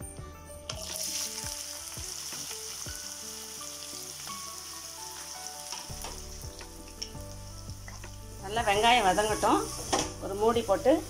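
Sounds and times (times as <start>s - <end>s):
soft background music: 0.0s - 11.0s
onions sizzling in hot oil: 0.7s - 11.0s.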